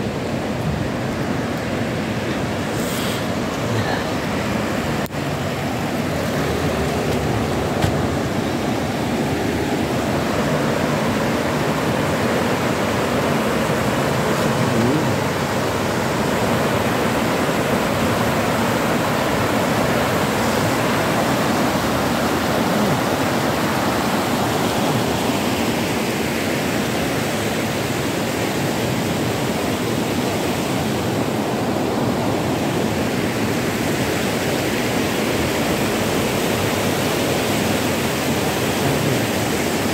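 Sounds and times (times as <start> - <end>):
river rushing over rocky rapids: 0.0 - 39.9.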